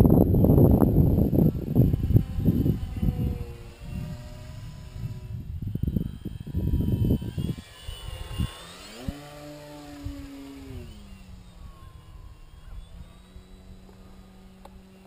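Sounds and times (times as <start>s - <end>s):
model plane motor whine: 0.0s - 15.0s
wind rumbling on microphone: 0.0s - 15.0s.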